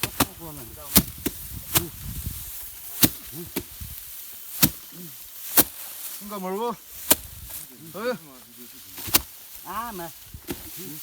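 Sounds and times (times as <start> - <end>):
rice stalks snapping: 0.0 - 6.2, 6.9 - 7.8, 8.4 - 9.6, 10.2 - 10.9.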